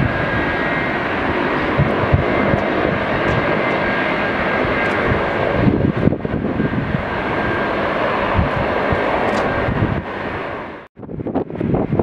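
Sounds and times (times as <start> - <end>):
jet engines rushing with whine: 0.0 - 12.0
wind buffeting microphone: 0.0 - 12.0.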